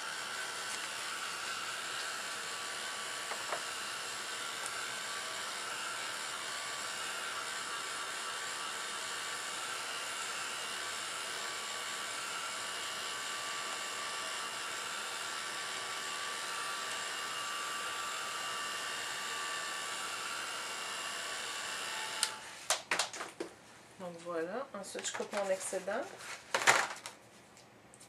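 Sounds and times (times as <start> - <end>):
hair dryer whirring: 0.0 - 22.9.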